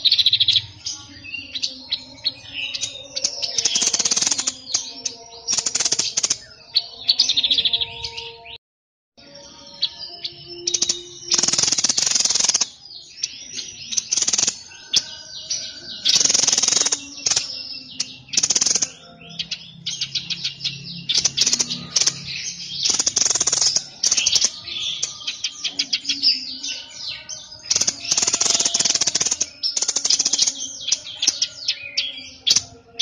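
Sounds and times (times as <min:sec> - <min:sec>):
songbird trilling and chirping: 0:00.0 - 0:08.6, 0:09.2 - 0:33.0.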